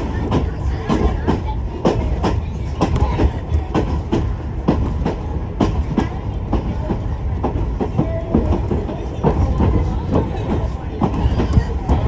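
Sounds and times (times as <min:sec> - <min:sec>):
train wheels clacking over rail joints: 0:00.0 - 0:12.0.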